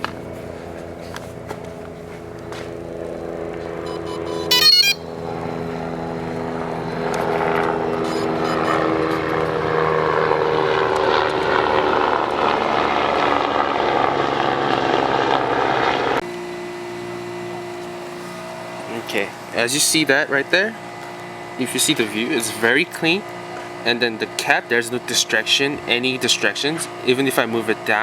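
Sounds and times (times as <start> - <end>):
quadcopter propeller hum: 0.0 - 28.0.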